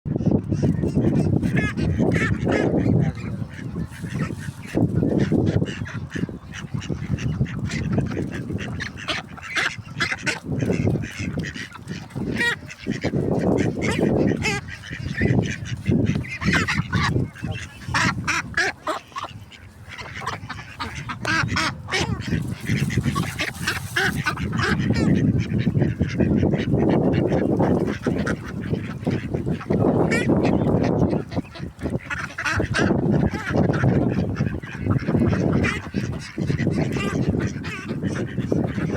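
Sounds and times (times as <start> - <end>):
ducks calling: 0.1 - 38.9.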